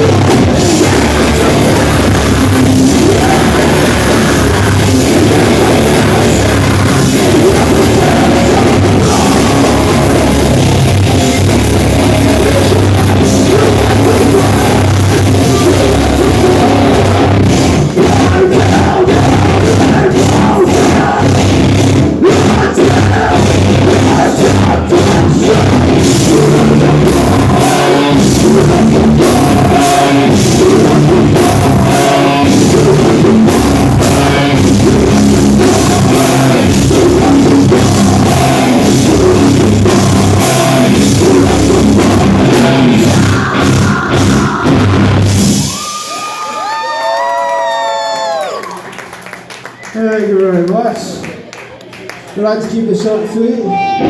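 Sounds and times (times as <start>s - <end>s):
heavy metal band playing live: 0.0s - 46.1s, 53.7s - 54.0s.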